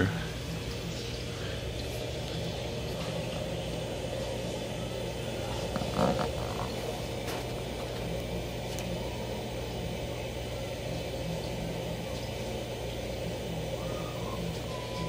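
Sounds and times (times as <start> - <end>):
aquarium air pump hum: 0.0 - 15.0.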